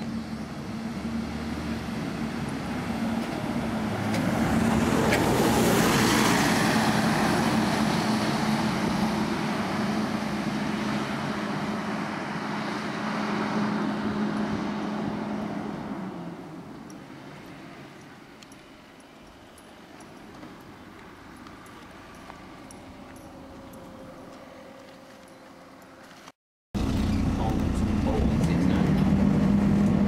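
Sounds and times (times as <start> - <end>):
bus engine humming: 0.0 - 30.0.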